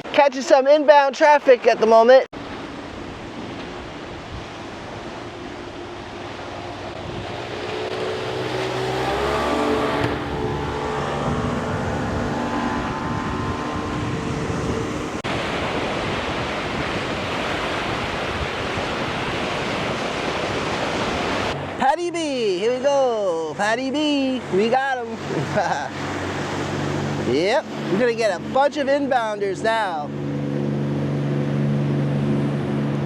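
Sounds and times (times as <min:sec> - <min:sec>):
surf: 0:00.0 - 0:33.0
wind: 0:00.0 - 0:33.0
motorboat engine running: 0:02.4 - 0:21.8, 0:22.4 - 0:33.0.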